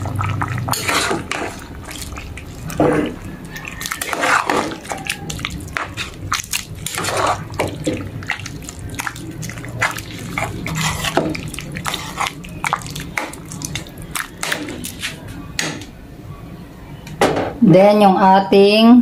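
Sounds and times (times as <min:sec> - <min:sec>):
stew sloshing and dripping: 0:00.0 - 0:15.4.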